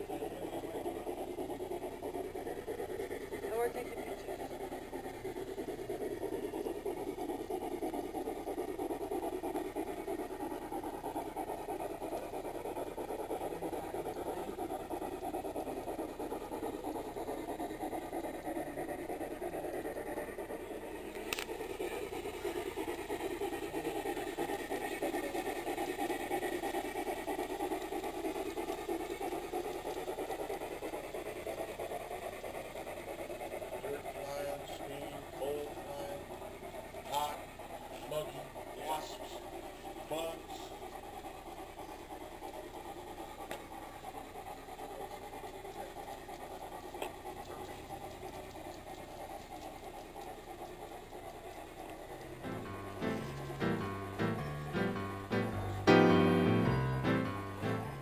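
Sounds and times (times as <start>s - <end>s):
model train rumbling on track: 0.0s - 58.0s.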